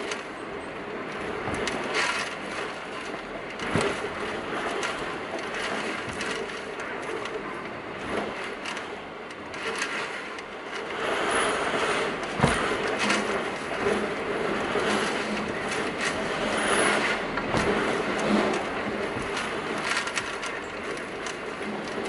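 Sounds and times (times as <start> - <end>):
wind and driving rain: 0.0 - 22.0.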